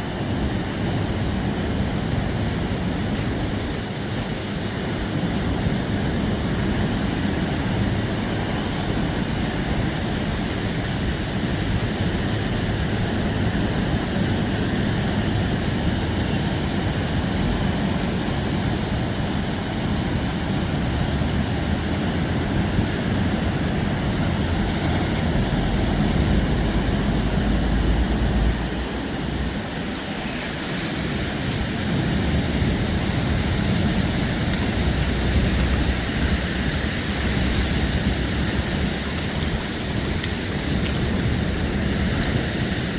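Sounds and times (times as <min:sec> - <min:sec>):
ocean surf: 0:00.0 - 0:42.9
rain: 0:00.0 - 0:42.9.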